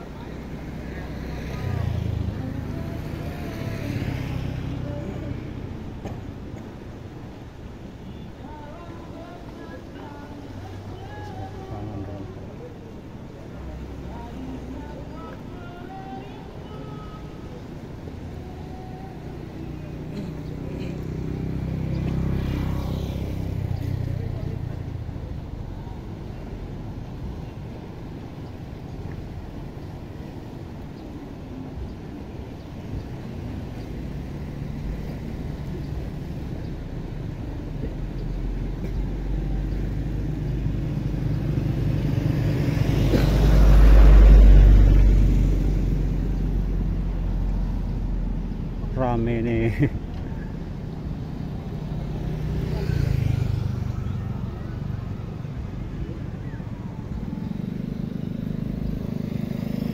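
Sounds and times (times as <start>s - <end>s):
motor vehicle passing by: 0.0s - 6.3s, 17.5s - 59.9s
low rumble of traffic: 0.0s - 59.9s.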